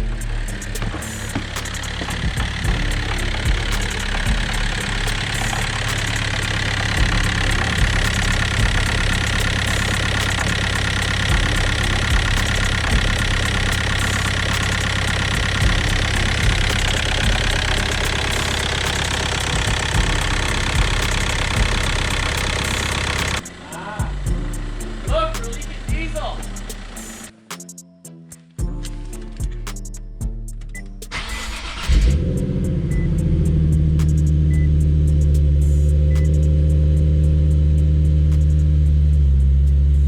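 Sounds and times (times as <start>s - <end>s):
car engine idling with clatter: 0.0s - 23.6s, 24.3s - 27.3s, 31.1s - 40.0s.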